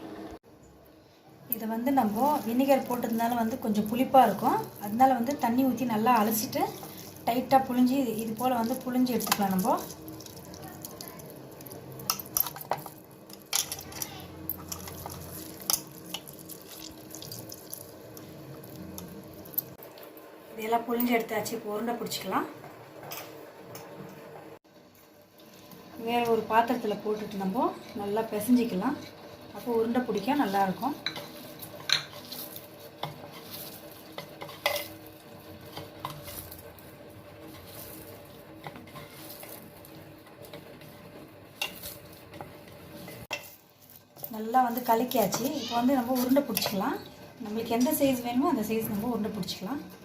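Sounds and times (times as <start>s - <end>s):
curd being kneaded in a bowl: 1.7s - 19.9s, 26.3s - 50.0s.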